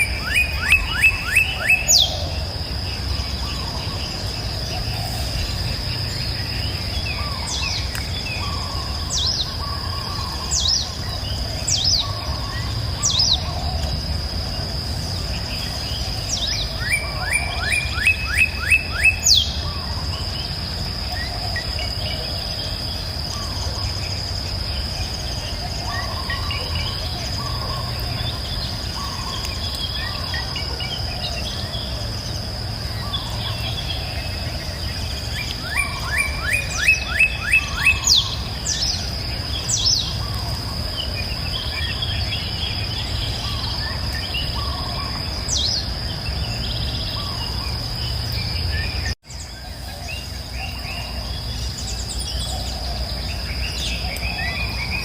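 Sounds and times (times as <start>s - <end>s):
high insect drone: 0.0s - 55.0s
songbirds singing: 0.0s - 55.0s.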